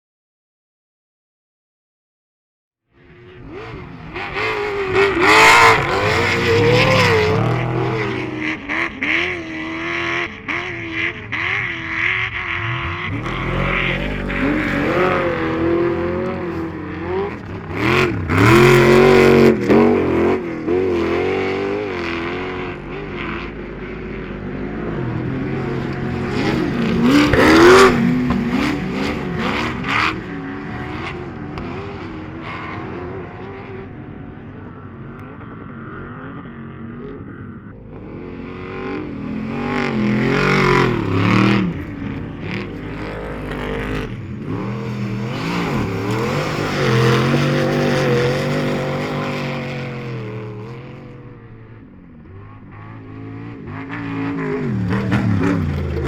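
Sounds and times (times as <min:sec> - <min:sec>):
off-road engines revving: 0:03.0 - 0:56.0.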